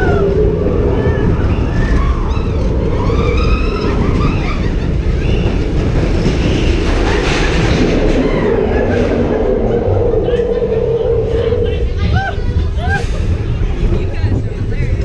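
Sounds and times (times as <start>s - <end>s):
wavering squeals: 0.0s - 13.2s
moving vehicle rumble: 0.0s - 15.0s.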